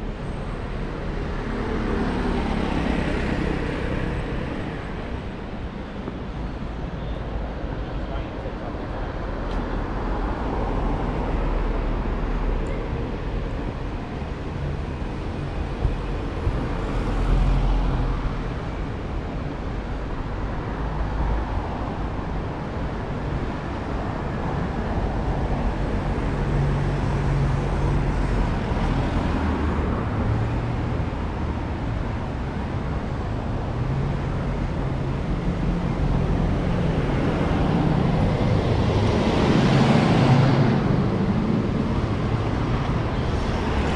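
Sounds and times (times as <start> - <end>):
cars passing: 0.0 - 43.9.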